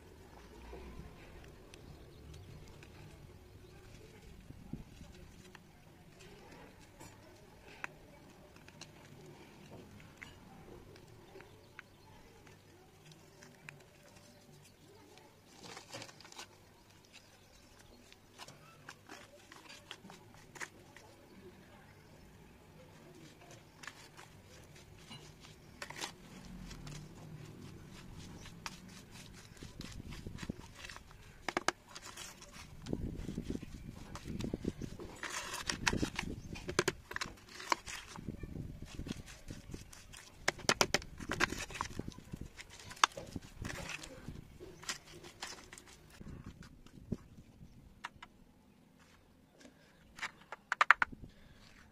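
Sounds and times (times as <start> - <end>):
dry clay crumbling and crackling: 0.0 - 51.9.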